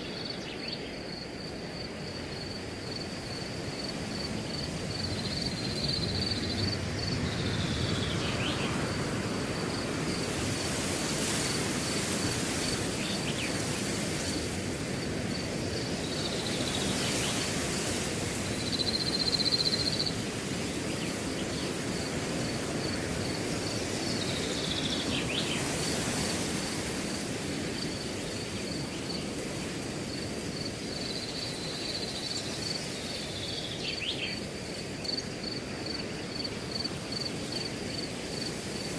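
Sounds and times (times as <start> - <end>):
cricket chirping: 0.0 - 38.9
wind rustling grass: 0.0 - 38.9.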